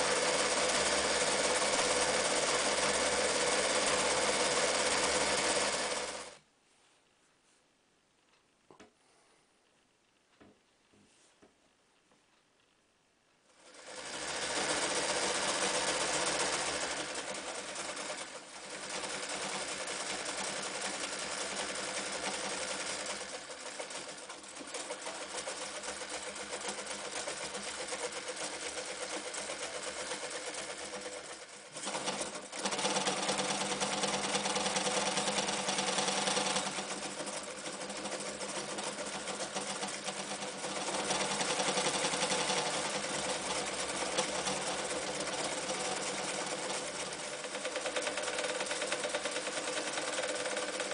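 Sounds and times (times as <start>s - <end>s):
sewing machine running: 0.0s - 6.4s, 13.5s - 50.9s.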